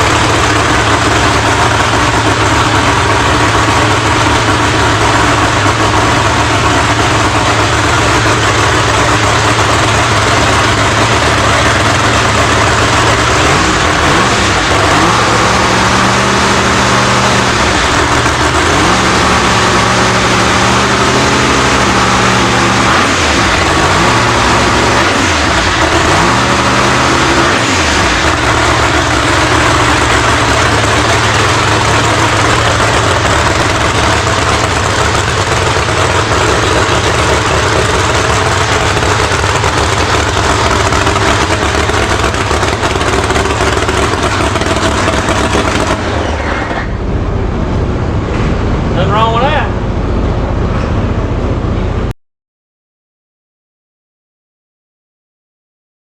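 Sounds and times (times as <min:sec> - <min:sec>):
race car engine idling and revving: 0:00.0 - 0:52.2.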